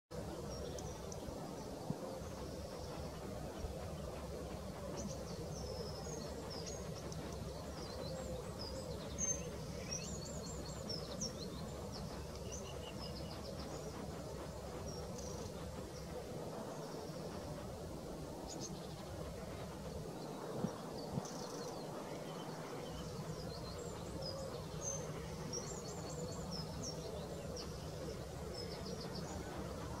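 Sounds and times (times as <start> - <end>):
low hum of distant noise: 0.1 - 30.0.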